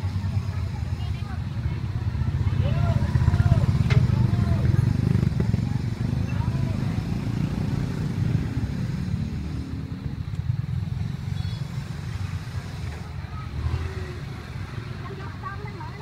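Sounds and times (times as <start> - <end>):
motorbike traffic rumble: 0.0 - 16.0.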